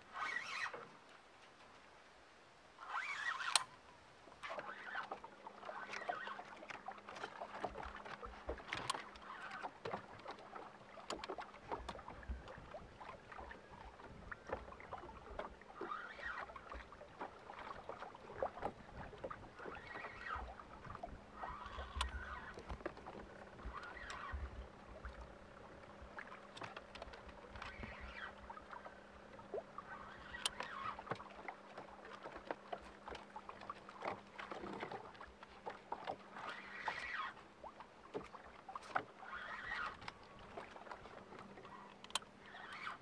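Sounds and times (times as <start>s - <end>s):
water lapping against boat hull: 0.0s - 2.0s, 2.8s - 43.0s.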